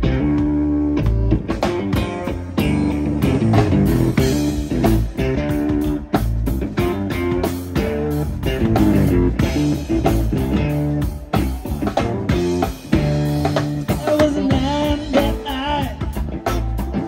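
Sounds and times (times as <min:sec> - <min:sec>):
bass guitar: 0:00.0 - 0:17.0
drum kit: 0:00.0 - 0:17.0
electric guitar through an amp: 0:00.0 - 0:17.0.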